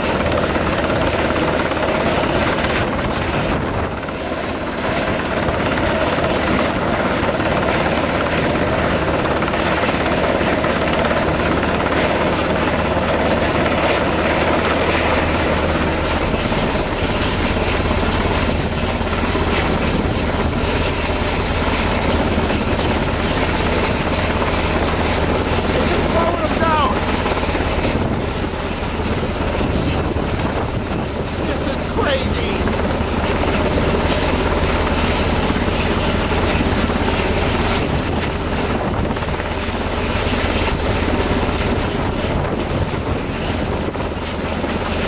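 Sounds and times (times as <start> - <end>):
helicopter flying close by: 0.0 - 45.0.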